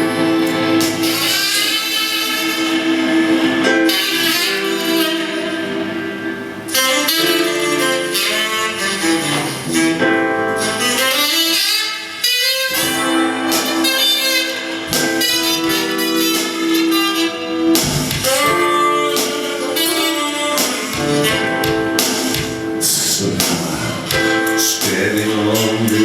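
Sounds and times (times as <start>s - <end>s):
melodic lead line: 0.0s - 25.2s
guitar: 0.0s - 26.0s
live band instrumental: 0.0s - 26.0s.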